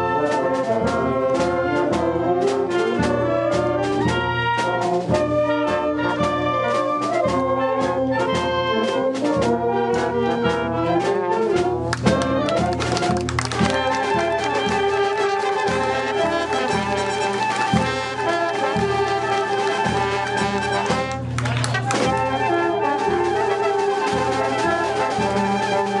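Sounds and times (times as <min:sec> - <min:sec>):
wind band playing: 0:00.0 - 0:26.0.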